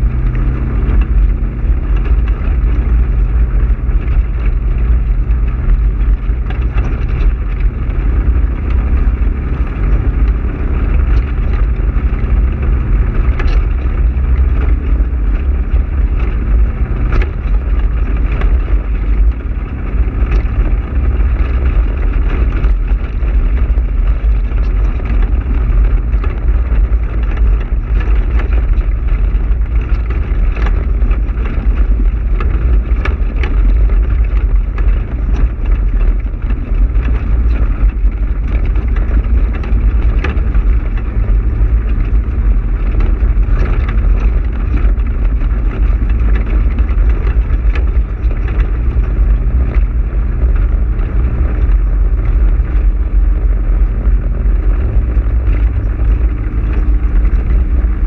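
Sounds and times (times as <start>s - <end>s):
clicks and rattles: 0.0s - 58.0s
off-road vehicle engine rumble: 0.0s - 58.0s.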